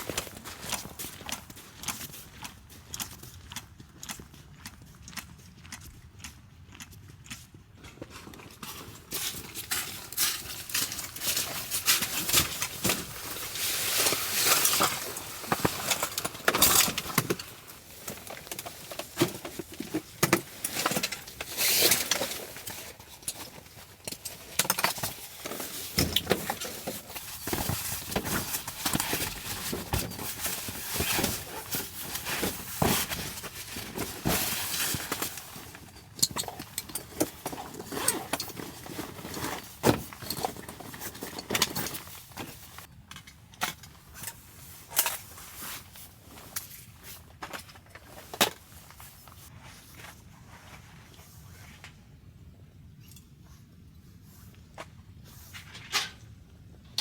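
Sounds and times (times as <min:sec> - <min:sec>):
crunching and clicking from handling: 0:00.0 - 0:49.5.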